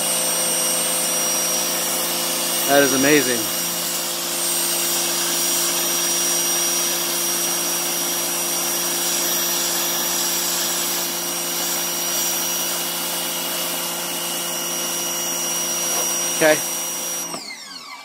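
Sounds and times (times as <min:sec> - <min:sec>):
water jet hissing on concrete: 0:00.0 - 0:17.2
pressure washer motor hum: 0:00.0 - 0:17.9.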